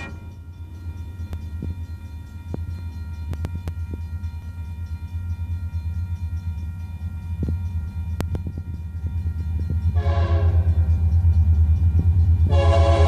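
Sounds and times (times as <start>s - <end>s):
distant diesel locomotive rumbling: 0.0s - 13.0s.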